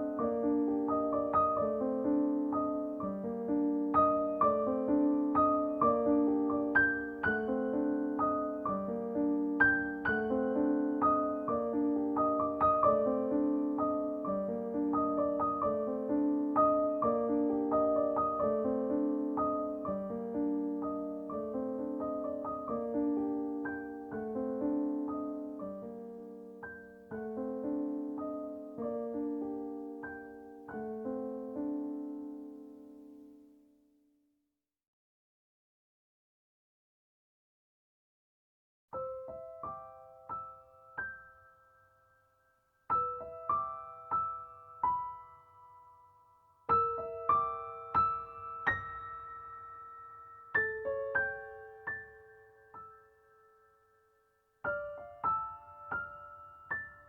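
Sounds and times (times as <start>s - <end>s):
gentle solo piano piece: 0.0s - 33.7s, 38.9s - 42.2s, 42.9s - 57.0s.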